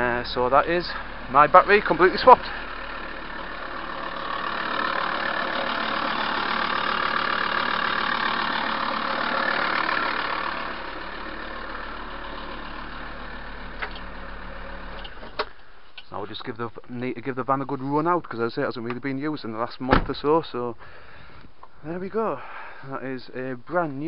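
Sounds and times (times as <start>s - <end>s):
van engine idling: 0.0s - 18.1s, 19.4s - 23.8s.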